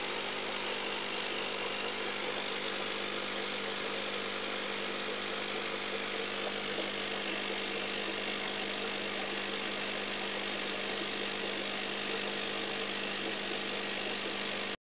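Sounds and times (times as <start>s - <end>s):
aquarium pump humming: 0.0s - 14.8s.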